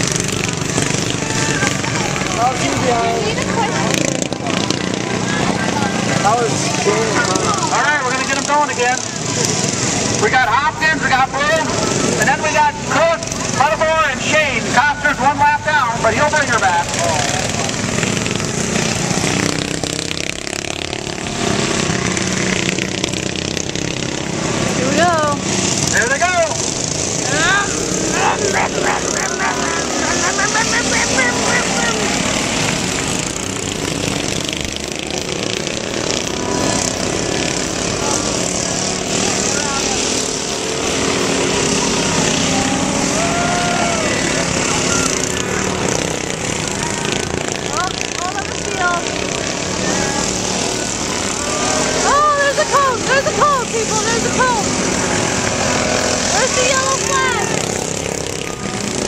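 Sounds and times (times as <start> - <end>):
racing lawn mower engines passing: 0.0 - 59.0.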